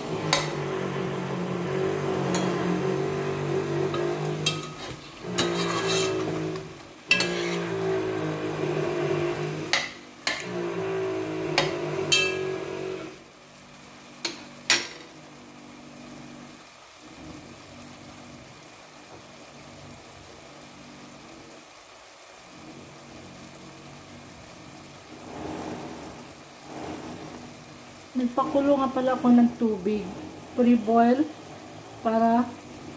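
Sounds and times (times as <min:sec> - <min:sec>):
sauce sizzling in a pot: 0:00.0 - 0:32.9.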